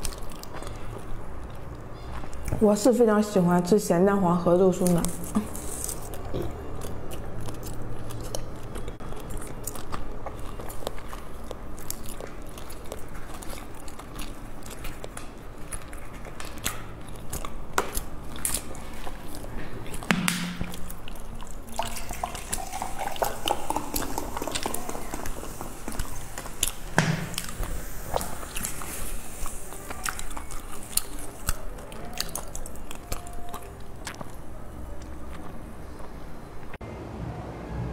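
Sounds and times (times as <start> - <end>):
wet chewing mouth clicks: 0.0 - 2.6, 4.8 - 36.7.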